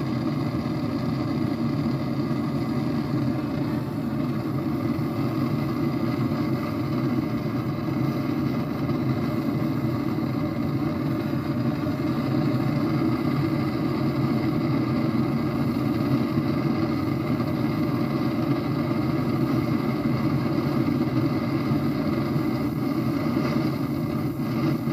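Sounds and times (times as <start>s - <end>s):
blowtorch burning with deep rush: 0.0s - 24.9s.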